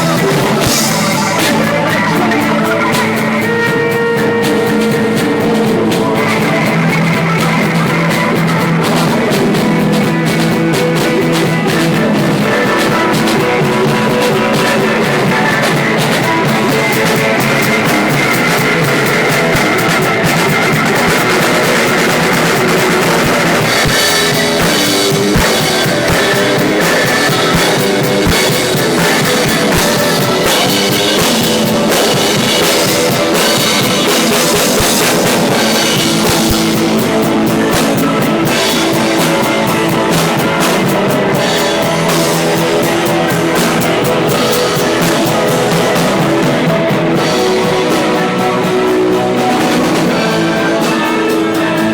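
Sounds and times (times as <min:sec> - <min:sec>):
drum kit: 0:00.0 - 0:51.9
electric guitar: 0:00.0 - 0:51.9
live rock band playing blues: 0:00.0 - 0:51.9.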